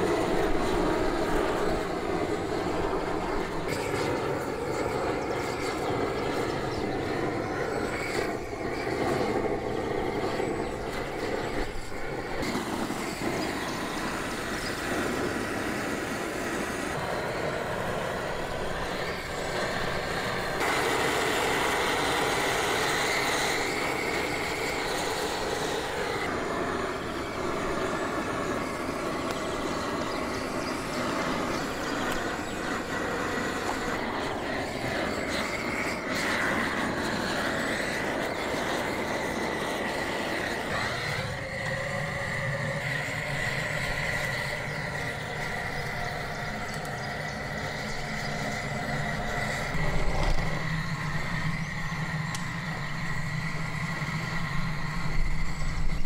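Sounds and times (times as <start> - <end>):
blowtorch flame hissing: 0.0 - 56.0.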